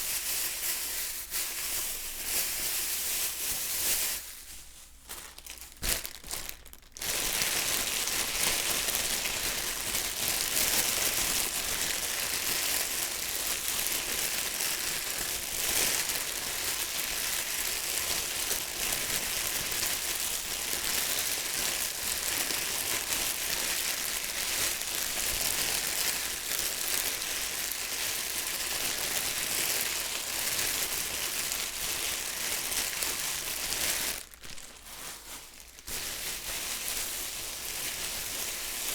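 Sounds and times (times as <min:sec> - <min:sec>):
plastic bag crinkling: 0:00.0 - 0:38.9.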